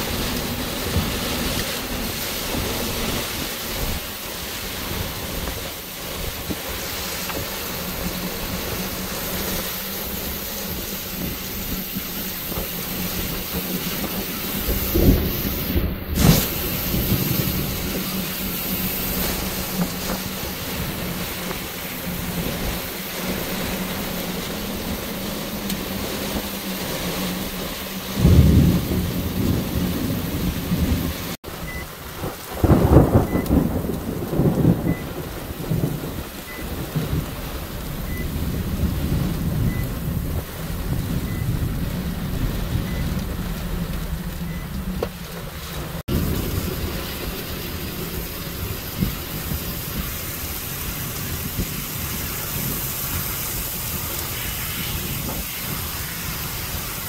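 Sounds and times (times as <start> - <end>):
heavy rain hissing: 0.0 - 57.0
low rumbles: 0.0 - 57.0
strong wind: 0.0 - 57.0.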